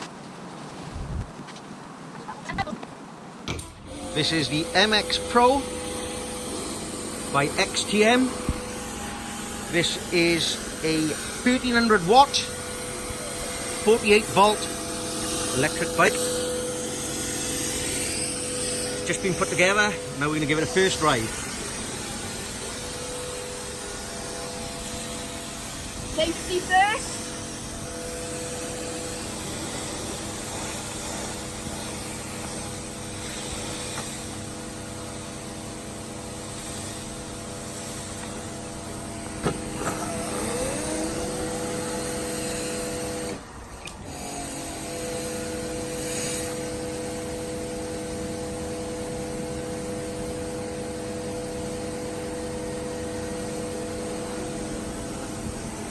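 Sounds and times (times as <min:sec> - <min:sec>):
electric motor whining: 0:03.5 - 0:55.9
steady hiss: 0:04.1 - 0:44.0, 0:45.0 - 0:55.9.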